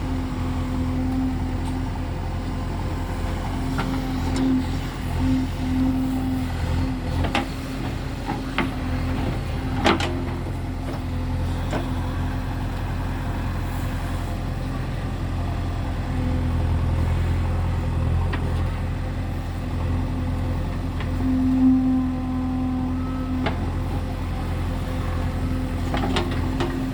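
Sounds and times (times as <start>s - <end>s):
heavy machinery engine droning: 0.0s - 26.9s.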